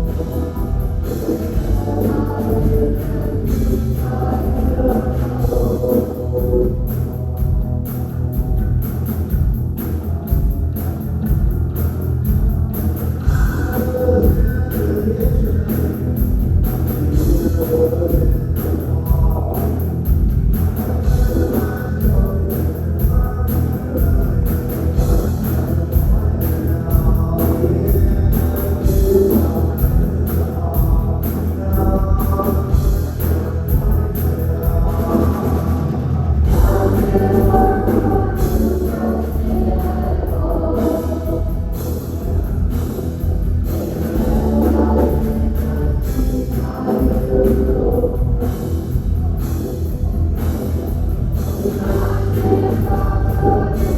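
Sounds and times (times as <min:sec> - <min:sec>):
wavering vocals: 0:00.0 - 0:08.6, 0:12.6 - 0:53.9
drum kit beat: 0:00.0 - 0:53.9
electric guitar: 0:00.0 - 0:53.9.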